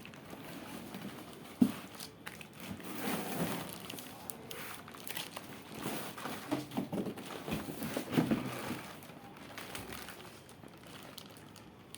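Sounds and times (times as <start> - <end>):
packaging rustling: 0.0 - 11.9.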